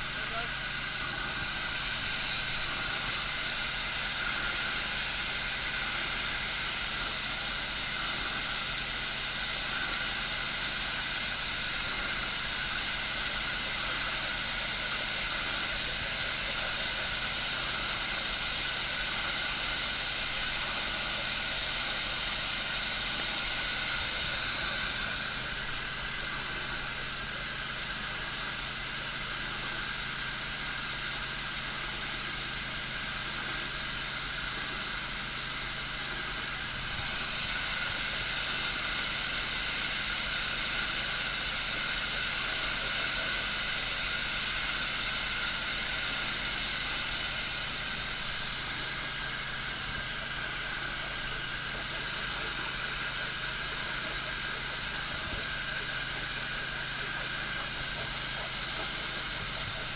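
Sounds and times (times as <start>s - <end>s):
water hissing under pressure: 0.0s - 59.9s.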